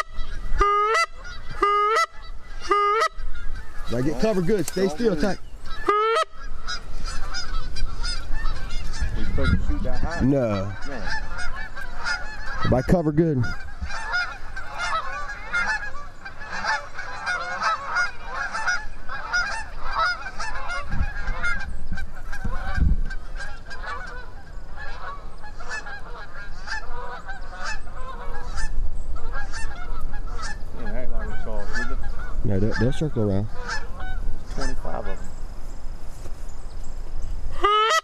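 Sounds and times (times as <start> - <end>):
geese honking: 0.0 - 35.3, 37.5 - 38.0.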